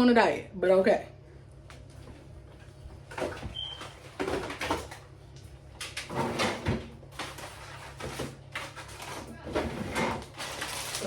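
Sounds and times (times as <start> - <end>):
grocery packages rustling: 1.8 - 11.0.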